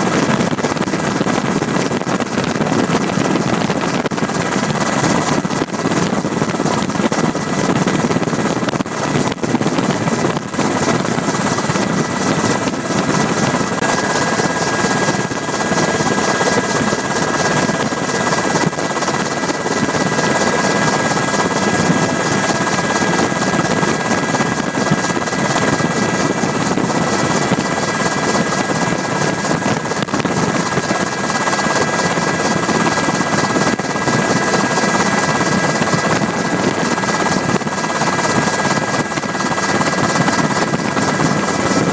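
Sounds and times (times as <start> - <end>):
helicopter rotor and engine drone: 0.0 - 41.9.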